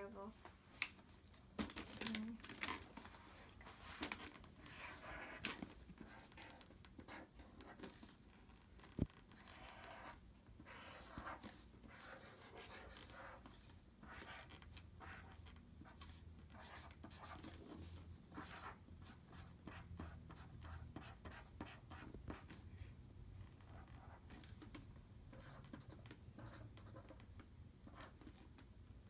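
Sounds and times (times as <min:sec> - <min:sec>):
marker scratching on paper: 0:03.6 - 0:08.2, 0:08.8 - 0:27.2, 0:27.8 - 0:28.5.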